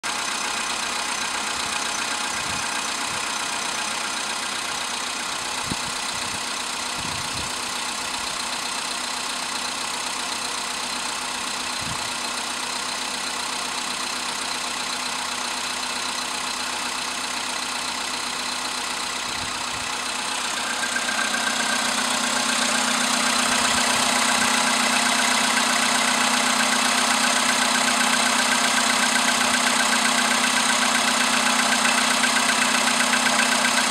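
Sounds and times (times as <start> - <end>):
car engine running cold: 0.0 - 33.9
engine knocking: 0.0 - 33.9.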